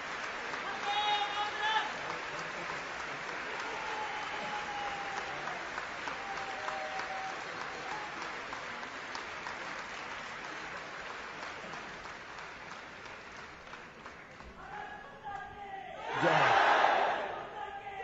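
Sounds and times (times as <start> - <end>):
audience applauding: 0.0 - 14.7, 16.0 - 17.3.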